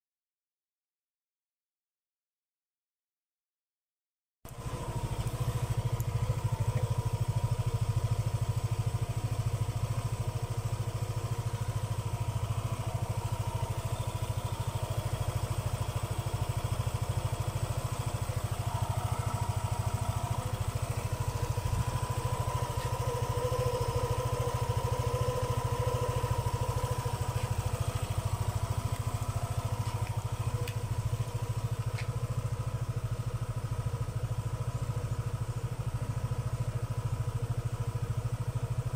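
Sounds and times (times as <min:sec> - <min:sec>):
scooter engine idling: 0:04.5 - 0:38.9.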